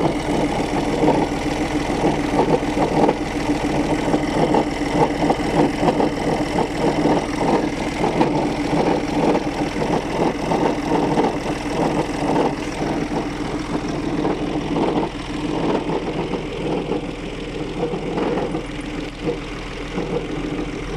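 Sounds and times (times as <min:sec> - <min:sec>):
diesel engine idling: 0:00.0 - 0:20.9
rattling clatter: 0:00.0 - 0:20.9.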